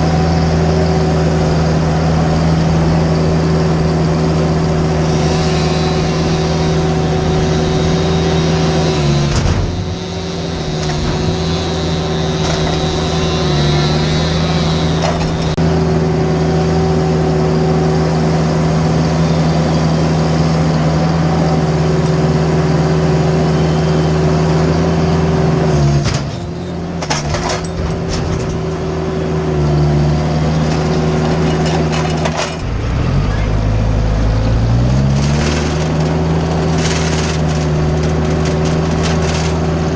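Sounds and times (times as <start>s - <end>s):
engine running at high speed: 0.0s - 39.9s.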